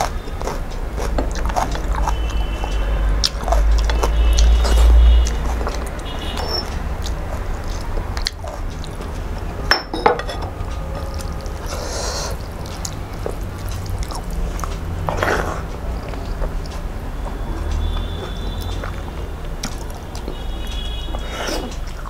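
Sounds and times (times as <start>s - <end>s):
chewing food: 0.0s - 9.6s, 10.6s - 22.0s.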